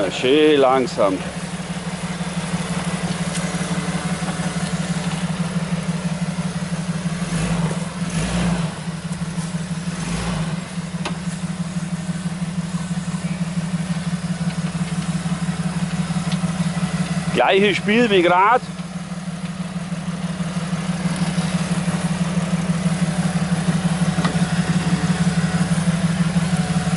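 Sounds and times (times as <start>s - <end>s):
engine running at low revs: 0.0s - 26.9s.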